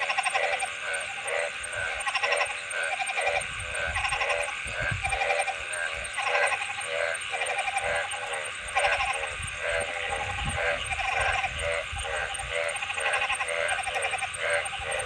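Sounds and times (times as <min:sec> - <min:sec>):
faint higher frog calls: 0:00.0 - 0:15.0
frogs croaking: 0:00.0 - 0:15.0.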